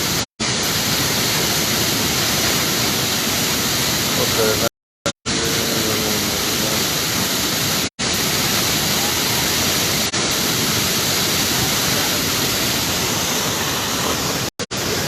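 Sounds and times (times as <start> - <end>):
waterfall rushing: 0.0 - 4.7, 5.3 - 15.0.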